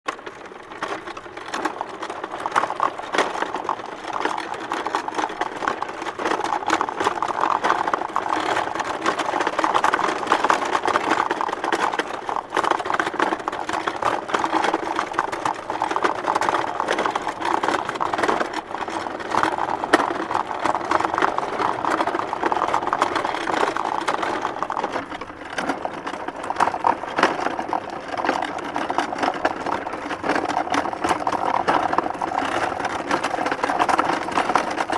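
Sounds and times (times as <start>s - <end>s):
wooden cart rattling on dirt road: 0.1s - 34.9s.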